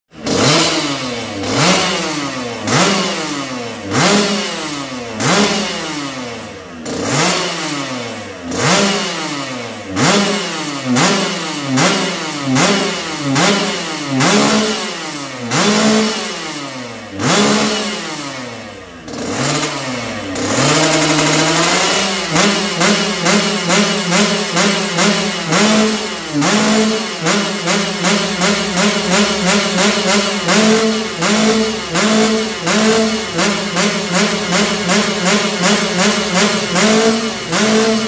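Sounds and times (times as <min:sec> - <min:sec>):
motorcycle engine revving: 0:00.1 - 0:38.0.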